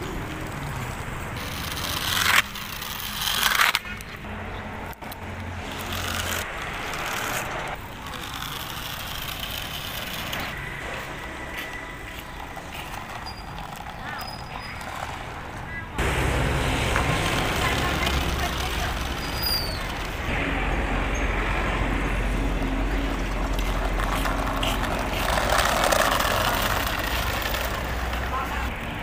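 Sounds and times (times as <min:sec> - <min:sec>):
toy cars rolling on rough road: 0:00.0 - 0:20.3, 0:22.3 - 0:29.0.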